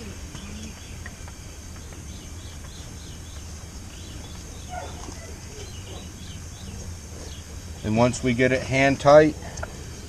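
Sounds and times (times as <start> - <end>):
lower bird call: 0.0 - 8.1.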